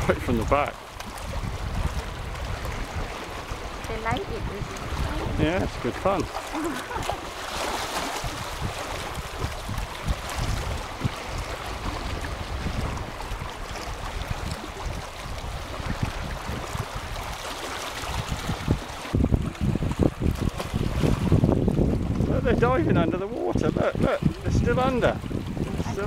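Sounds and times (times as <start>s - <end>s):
small waves lapping on rocks: 0.0s - 26.0s
wind buffeting microphone: 0.0s - 26.0s.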